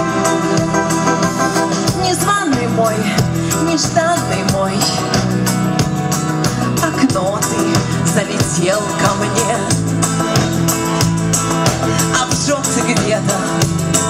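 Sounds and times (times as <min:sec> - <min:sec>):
drums steady beat: 0:00.0 - 0:14.0
live pop band playing: 0:00.0 - 0:14.0.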